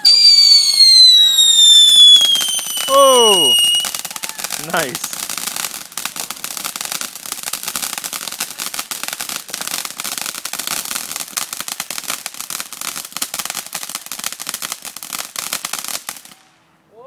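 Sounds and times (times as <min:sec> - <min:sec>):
firework fountain crackling: 0:00.0 - 0:16.5.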